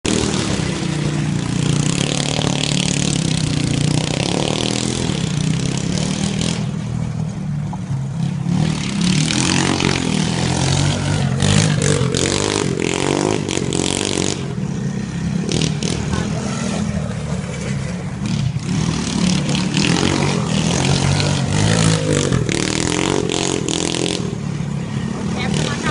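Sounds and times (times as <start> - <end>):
vehicle engine revving: 0.0 - 25.9.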